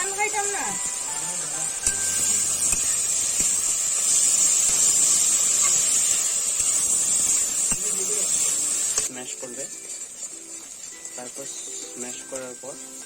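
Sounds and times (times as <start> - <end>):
oil sizzling as food fries: 0.0 - 13.0.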